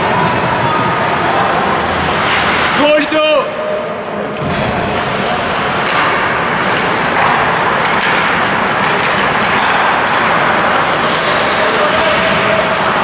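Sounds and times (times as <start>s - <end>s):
ice hockey crowd and rink noise: 0.0s - 13.0s.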